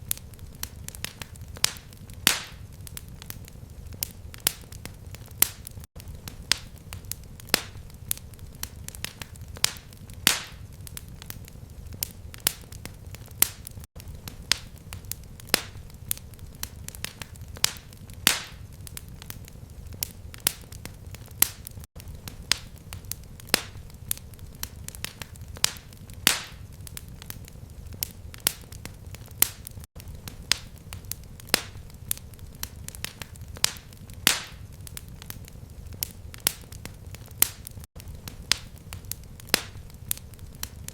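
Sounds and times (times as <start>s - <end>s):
fire crackling and popping: 0.0s - 40.9s
low rumble of flame: 0.0s - 40.9s.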